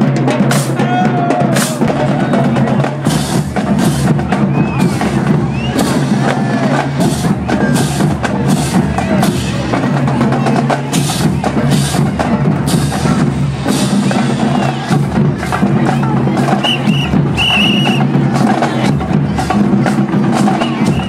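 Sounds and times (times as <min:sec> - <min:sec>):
drum line marching cadence: 0:00.0 - 0:21.0.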